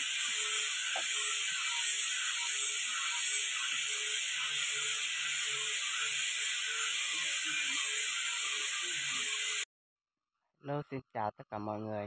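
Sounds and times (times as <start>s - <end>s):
angle grinder on wood: 0.0s - 9.7s.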